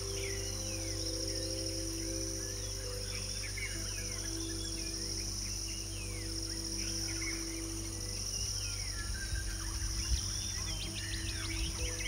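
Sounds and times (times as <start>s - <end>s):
soft background music: 0.0s - 12.0s
steady high-pitched drone: 0.0s - 12.0s.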